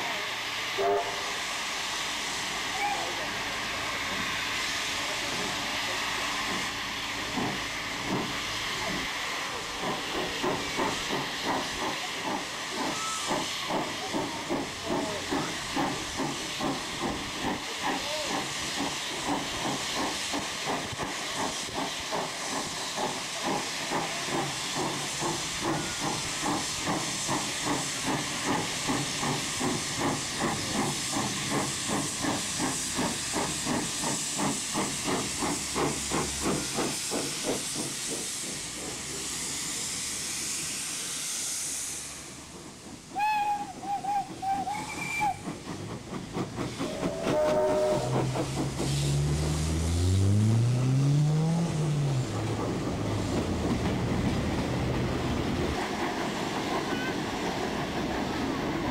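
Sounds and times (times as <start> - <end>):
steam hissing: 0.0 - 58.9
steam locomotive exhaust chuffing: 0.0 - 58.9.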